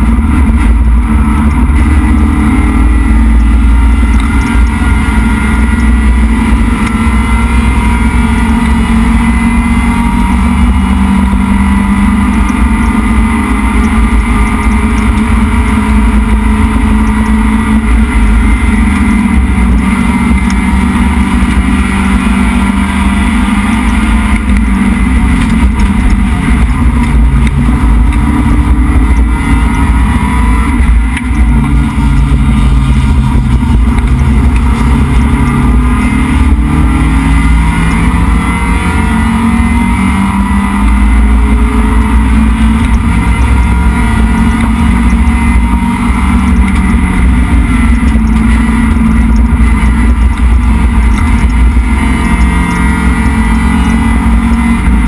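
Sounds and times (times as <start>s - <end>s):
racing car engine running hard: 0.0s - 55.0s
road and wind noise: 0.0s - 55.0s.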